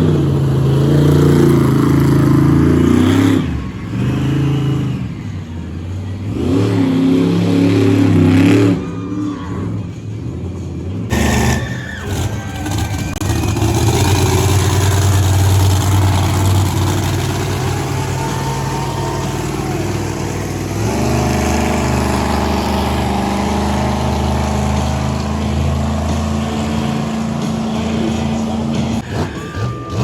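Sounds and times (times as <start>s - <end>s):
monster truck engine droning: 0.0s - 30.0s.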